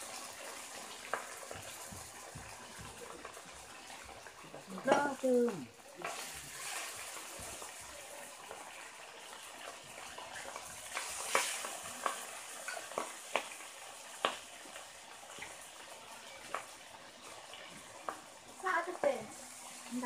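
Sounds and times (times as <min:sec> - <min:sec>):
fish sizzling in hot oil: 0:00.0 - 0:20.0
oil popping and crackling: 0:00.0 - 0:20.0.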